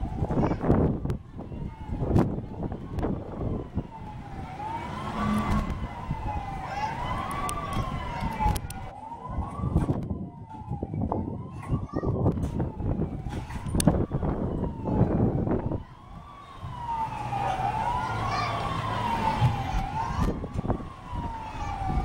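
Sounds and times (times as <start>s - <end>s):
emergency siren wailing: 0.0s - 22.0s.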